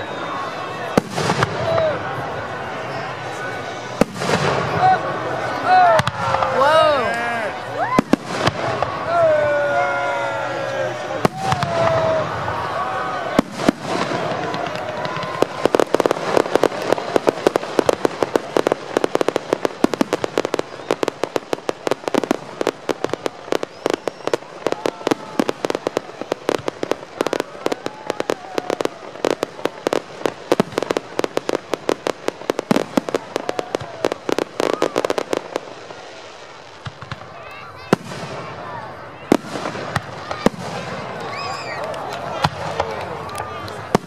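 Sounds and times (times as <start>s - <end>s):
fireworks bangs and pops: 0.2s - 10.0s, 10.7s - 44.0s.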